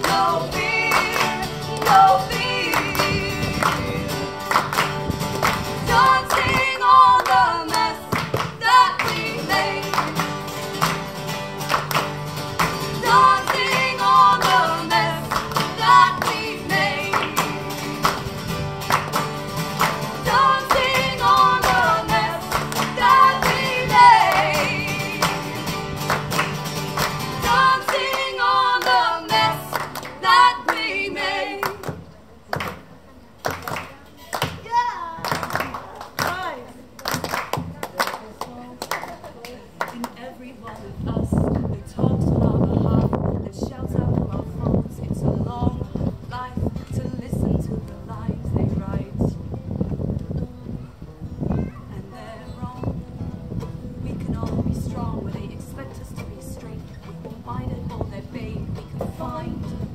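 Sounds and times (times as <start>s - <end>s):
strummed acoustic guitars: 0.0s - 32.8s, 41.4s - 59.9s.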